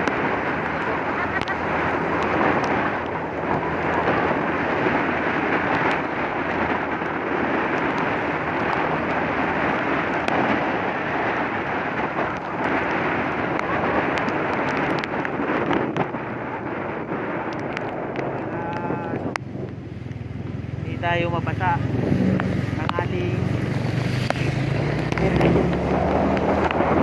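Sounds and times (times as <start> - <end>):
motorcycle tyres on wet road: 0.0 - 27.0
wind rushing on microphone: 0.0 - 27.0.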